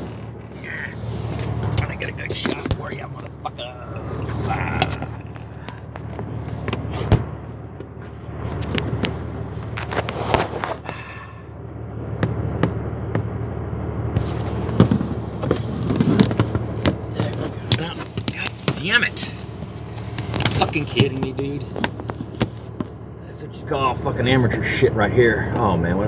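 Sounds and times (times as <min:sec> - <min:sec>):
vehicle cab rumble: 0:00.0 - 0:26.0.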